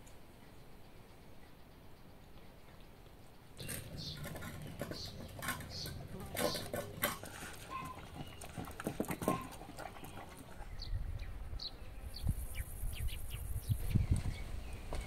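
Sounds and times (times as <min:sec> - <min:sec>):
bird chirps: 0:00.4 - 0:06.8, 0:07.7 - 0:15.0.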